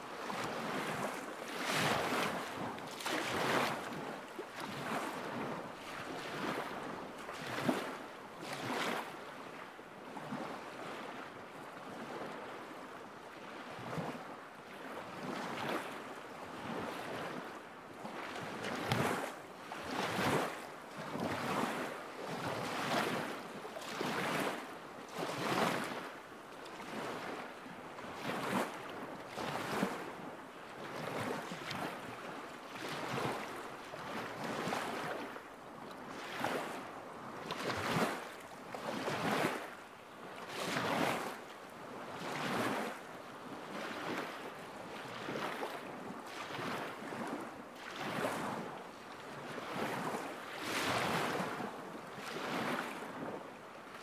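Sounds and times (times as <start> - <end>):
lake waves lapping shore: 0.0 - 54.0
wind: 0.0 - 54.0.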